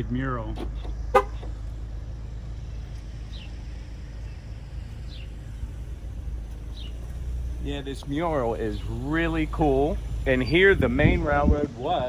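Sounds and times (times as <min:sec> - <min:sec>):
steady low rumble: 0:00.0 - 0:12.0
high bird chirp: 0:00.7 - 0:10.9.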